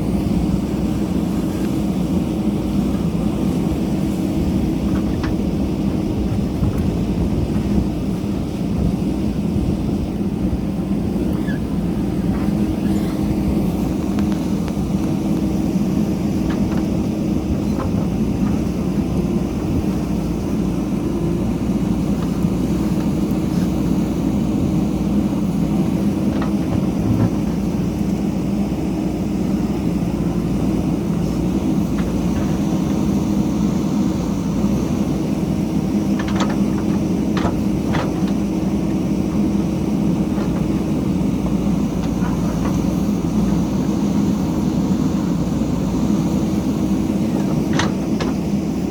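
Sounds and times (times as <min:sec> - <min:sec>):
diesel engine droning: 0:00.0 - 0:48.9.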